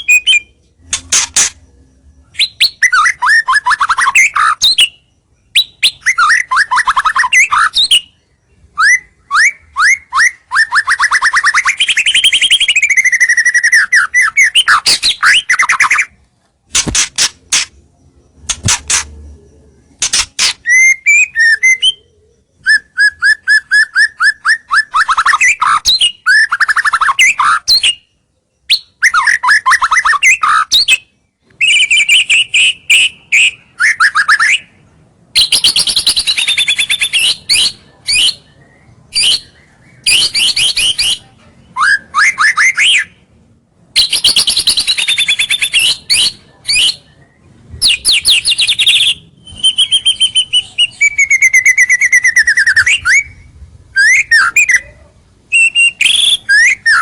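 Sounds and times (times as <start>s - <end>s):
bird singing trills and whistles: 0.0s - 34.8s, 35.4s - 43.2s, 44.0s - 57.0s.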